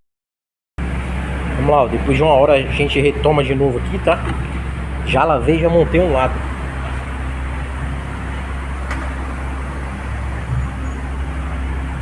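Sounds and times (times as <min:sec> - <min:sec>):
low vehicle hum: 0:00.8 - 0:12.0.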